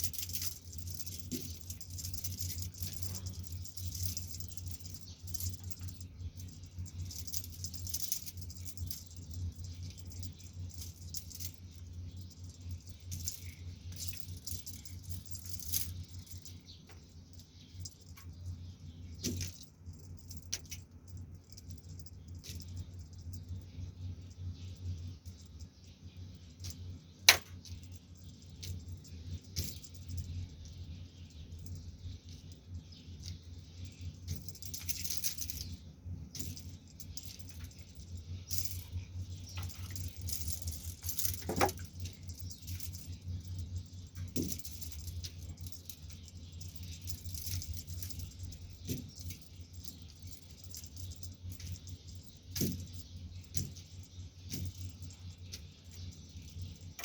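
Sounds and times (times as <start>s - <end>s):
light rattling: 0.0s - 57.0s
low steady hum: 0.0s - 57.0s.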